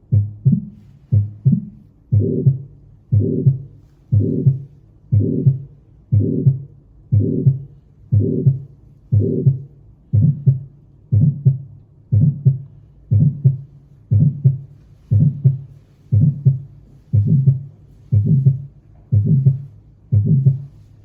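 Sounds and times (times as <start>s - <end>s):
heartbeat through stethoscope: 0.0s - 21.0s.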